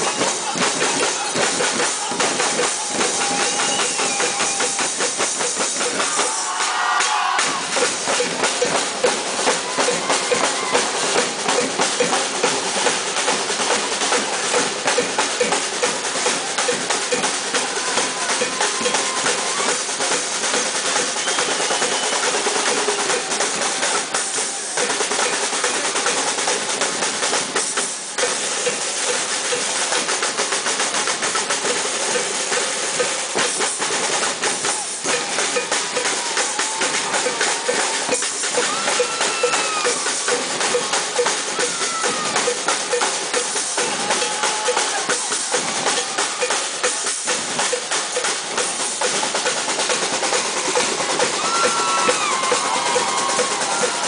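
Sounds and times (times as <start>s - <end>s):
drum ensemble playing fast: 0.0s - 54.0s.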